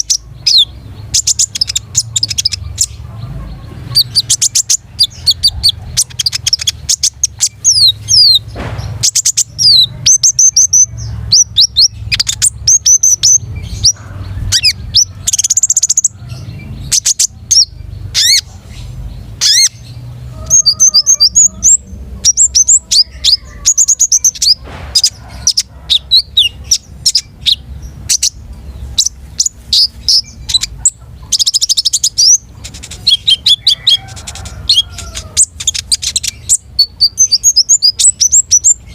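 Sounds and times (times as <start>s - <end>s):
songbird singing trills: 0.0s - 38.9s.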